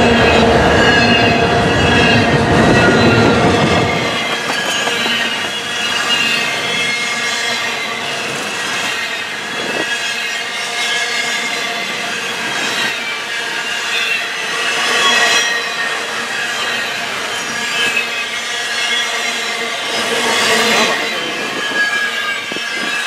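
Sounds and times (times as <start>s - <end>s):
freight train rolling past: 0.0s - 23.0s
high-pitched wheel squeal: 0.0s - 23.0s.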